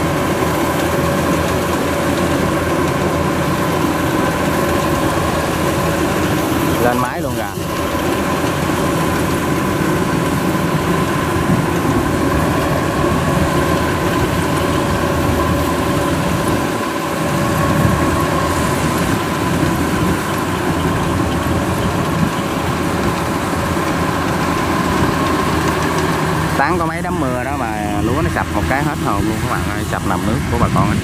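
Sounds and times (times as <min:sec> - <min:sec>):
combine harvester diesel drone: 0:00.0 - 0:31.0
steady machine whine: 0:00.0 - 0:31.0.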